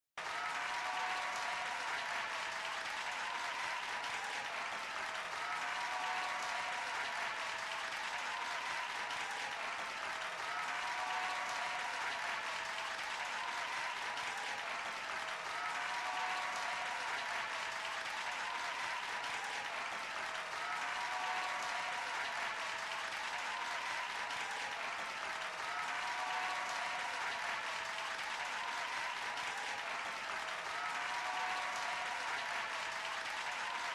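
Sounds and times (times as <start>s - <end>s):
audience applauding: 0.2s - 33.9s.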